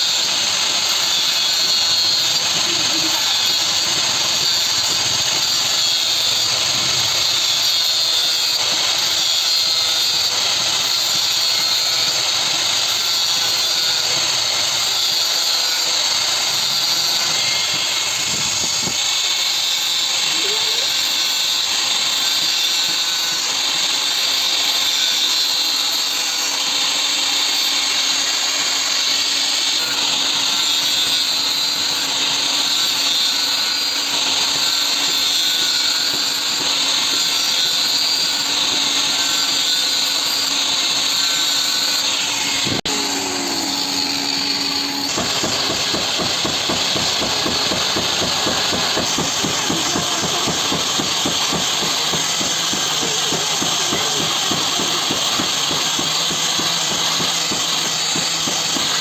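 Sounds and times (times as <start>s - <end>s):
power tool hissing: 0.0s - 59.0s.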